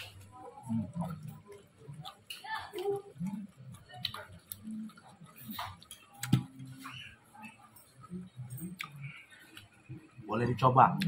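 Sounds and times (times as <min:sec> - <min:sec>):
mouth chewing clicks and lip smacks: 0:00.0 - 0:10.2.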